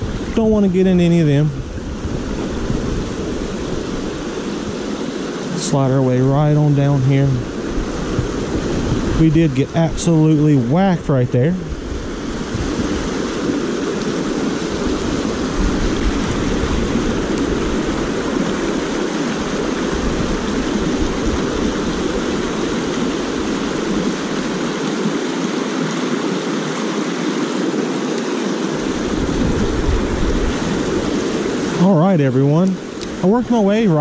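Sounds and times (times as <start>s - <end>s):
water rushing over rocks: 0.0s - 34.0s.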